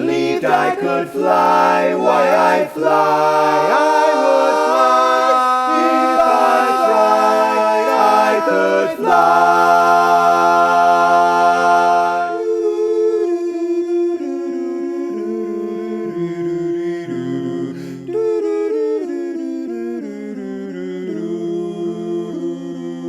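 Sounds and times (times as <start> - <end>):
vocal quartet humming chords: 0.0 - 23.0.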